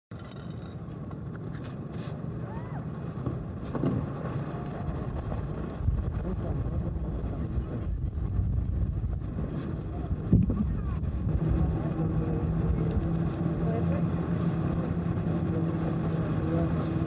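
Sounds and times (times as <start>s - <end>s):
wind buffeting microphone: 0.4s - 17.0s.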